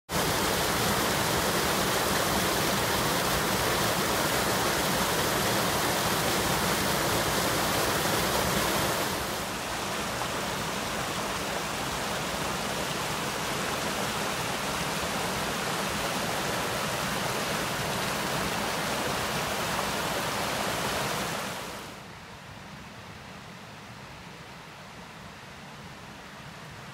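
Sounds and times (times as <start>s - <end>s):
creek rushing over rocks: 0.1s - 22.1s.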